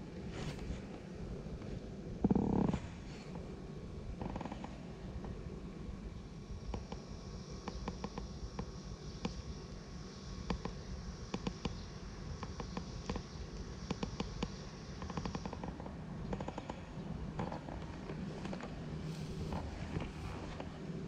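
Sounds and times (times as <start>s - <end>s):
faint high whine: 0.0s - 21.0s
low steady rumble: 0.0s - 21.0s.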